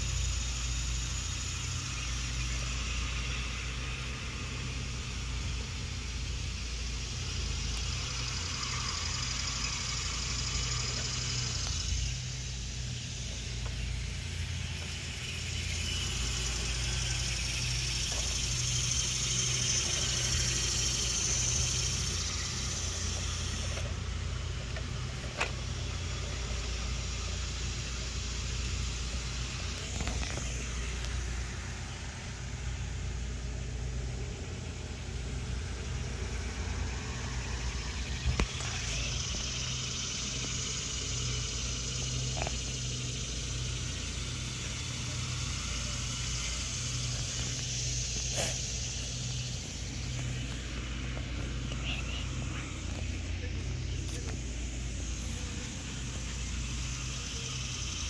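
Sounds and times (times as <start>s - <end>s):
hiss: 0.0s - 58.0s
petrol engine droning: 0.0s - 58.0s.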